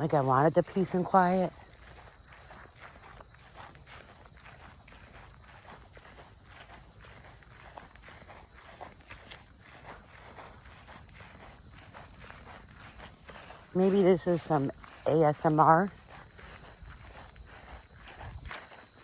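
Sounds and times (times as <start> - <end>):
crickets chirping: 0.0 - 19.0
footsteps on a trail: 0.0 - 19.0.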